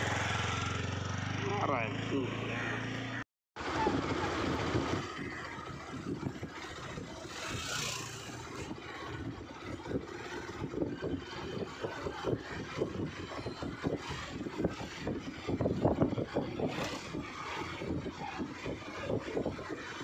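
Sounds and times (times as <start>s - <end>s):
vehicle engine running: 0.0s - 20.0s
wind buffeting microphone: 3.6s - 20.0s.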